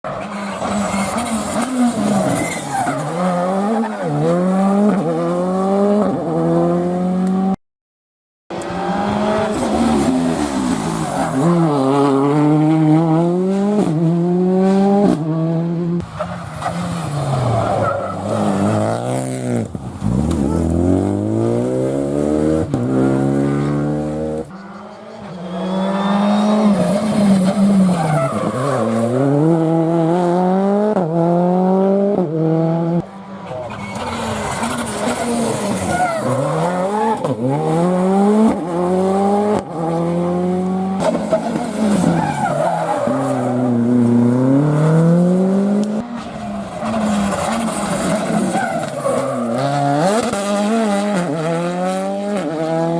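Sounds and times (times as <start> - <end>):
rally car engines revving: 0.1 - 7.6, 8.5 - 52.9.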